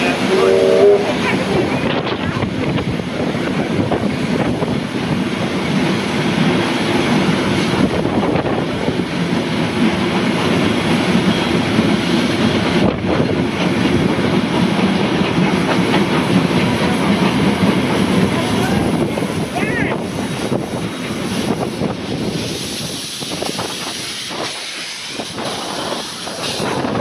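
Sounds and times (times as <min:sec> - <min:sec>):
train wheels rumbling and clattering: 0:00.0 - 0:27.0.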